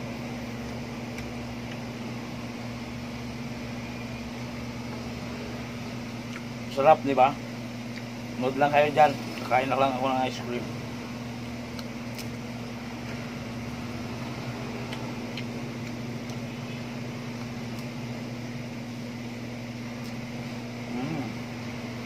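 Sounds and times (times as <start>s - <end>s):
electric motor hum: 0.0s - 22.0s.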